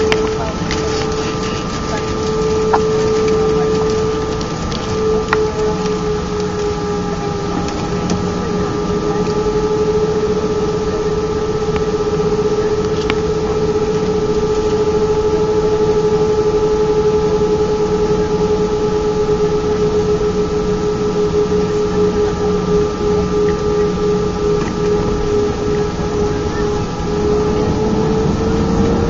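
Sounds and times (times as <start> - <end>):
jet engines humming: 0.0 - 29.0.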